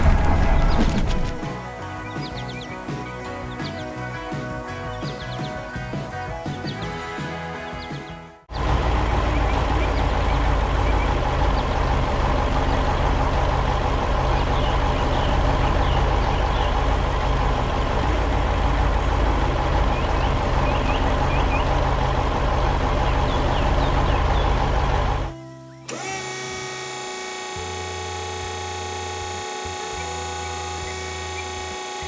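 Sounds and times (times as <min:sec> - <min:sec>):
heavy vehicle engine running: 0:00.0 - 0:32.0.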